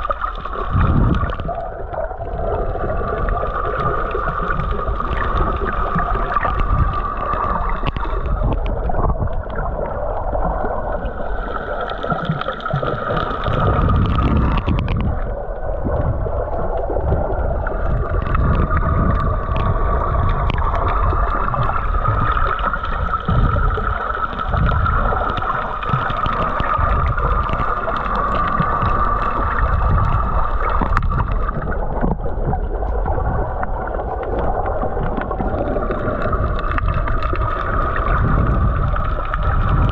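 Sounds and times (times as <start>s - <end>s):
low underwater rumble: 0.0s - 39.9s
steady underwater whine: 0.0s - 39.9s.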